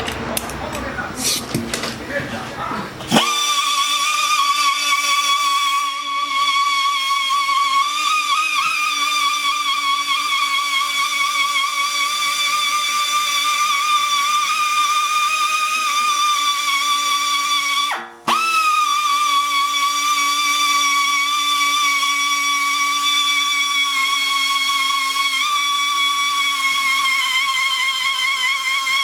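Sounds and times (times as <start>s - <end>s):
pneumatic tool whining: 2.9s - 29.0s.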